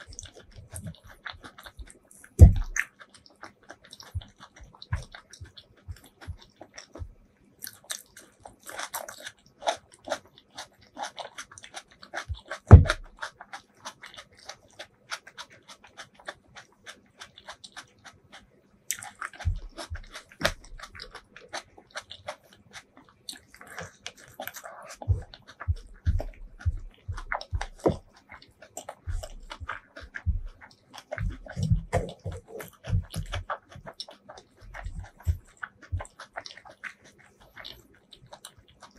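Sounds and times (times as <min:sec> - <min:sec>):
chewing with wet mouth clicks: 0:00.0 - 0:38.9.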